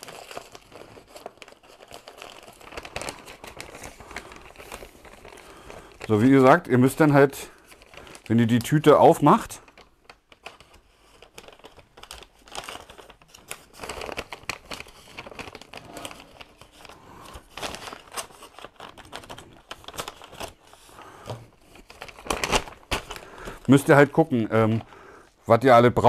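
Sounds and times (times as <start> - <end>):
paper bag crinkling and rustling: 0.0 - 25.0.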